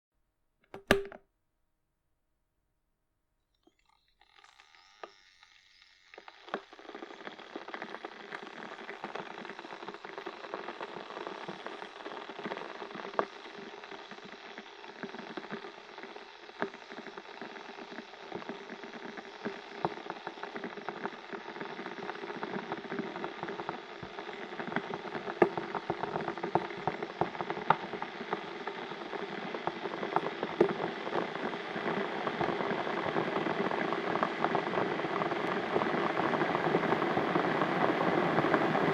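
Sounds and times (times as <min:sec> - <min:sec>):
kettle hissing with crackles: 0:03.6 - 0:38.9.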